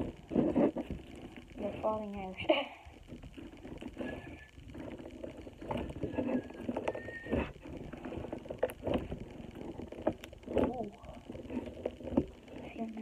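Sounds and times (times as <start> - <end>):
slime squelching and crackling: 0.0 - 13.0.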